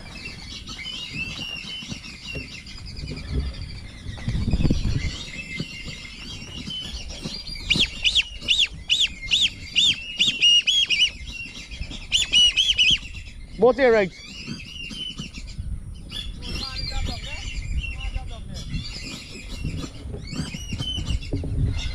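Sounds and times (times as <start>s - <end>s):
ducks whistling: 0.0s - 18.0s.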